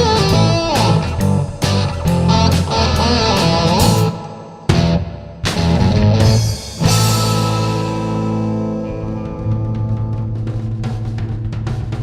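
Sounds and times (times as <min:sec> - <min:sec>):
electric guitar lead: 0:00.0 - 0:11.2
bass guitar: 0:00.0 - 0:12.0
drums: 0:00.0 - 0:12.0.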